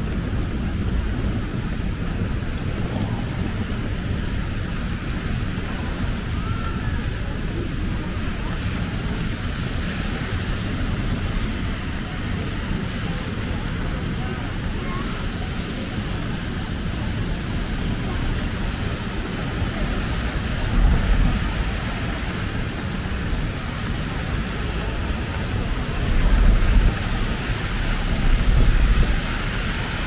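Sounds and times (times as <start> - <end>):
car tyres on wet pavement: 0.0 - 30.0
low rumbles: 0.0 - 30.0
passing traffic: 0.0 - 30.0
rain hissing: 0.0 - 30.0.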